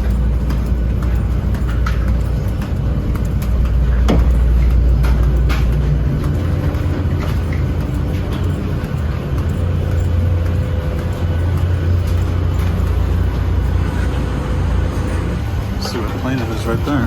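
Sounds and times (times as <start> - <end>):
air-conditioning hum in aircraft cabin: 0.0 - 17.0
faint steady whine: 0.0 - 17.0.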